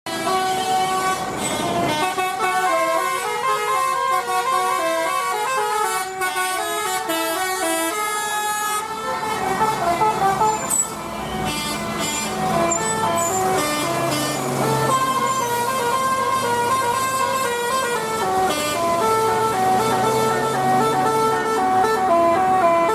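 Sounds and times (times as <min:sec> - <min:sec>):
musical air horn tune: 0:00.1 - 0:22.9.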